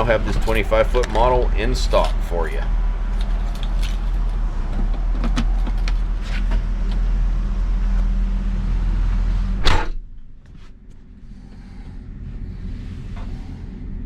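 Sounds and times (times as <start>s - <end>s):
large engine idling: 0.0s - 14.0s.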